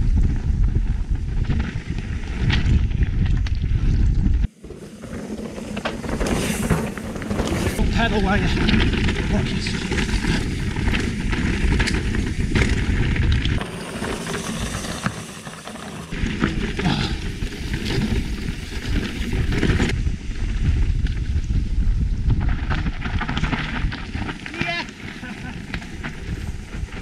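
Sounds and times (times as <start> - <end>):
wind buffeting microphone: 0.0 - 4.6, 5.9 - 13.7, 16.1 - 27.0
bike clicks and rattles: 0.0 - 27.0
bike tyres rolling over stones: 0.0 - 27.0.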